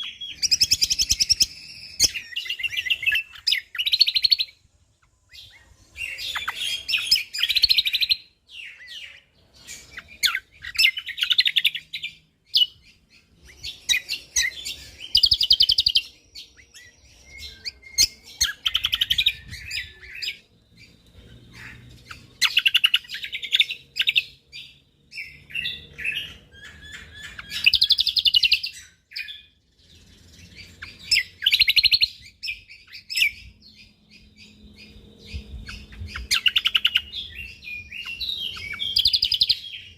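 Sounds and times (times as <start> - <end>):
bird singing fast chattering notes: 0.0 - 39.9.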